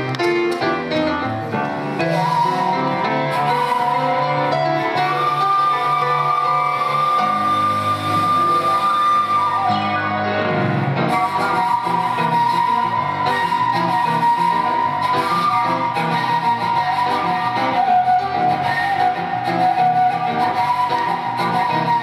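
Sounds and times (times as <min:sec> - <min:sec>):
grand piano: 0:00.0 - 0:22.0
end-blown flute: 0:01.7 - 0:22.0.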